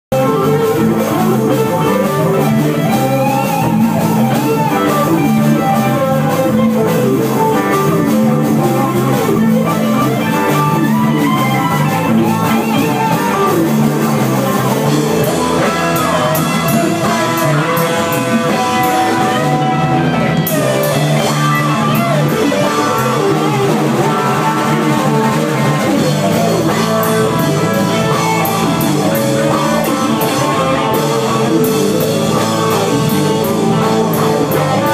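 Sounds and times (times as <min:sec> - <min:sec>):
blues-rock guitar music: 0:00.1 - 0:34.9
drum kit: 0:00.1 - 0:34.9.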